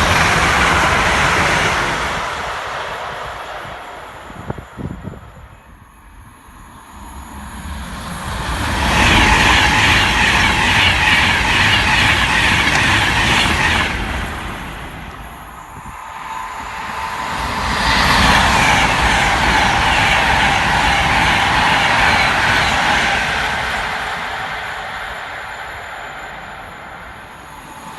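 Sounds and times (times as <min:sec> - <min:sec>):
trains passing at high speed: 0:00.0 - 0:27.9.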